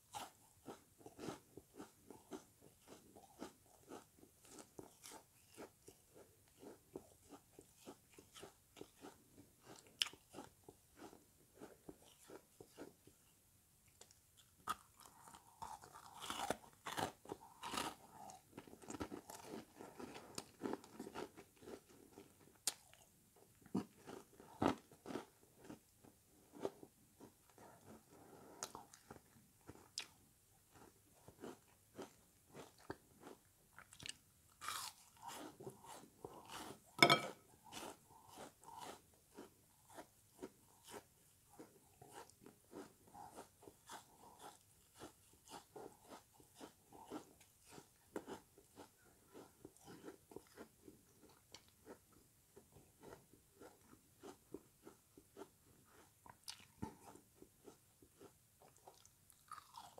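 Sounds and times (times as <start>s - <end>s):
crunchy biting and chewing: 0.1s - 13.0s, 14.0s - 25.9s, 28.6s - 52.0s, 53.0s - 59.9s.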